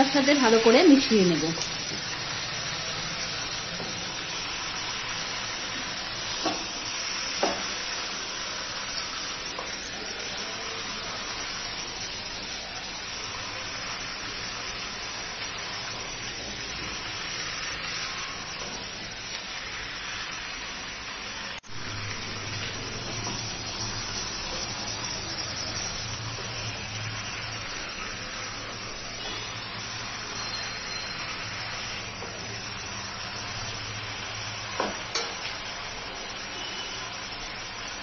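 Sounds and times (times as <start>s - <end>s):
meat sizzling in a frying pan: 0.0s - 38.0s.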